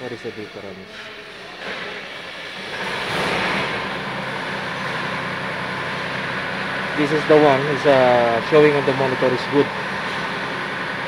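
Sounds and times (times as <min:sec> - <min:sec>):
heavy engine droning: 0:00.0 - 0:11.0.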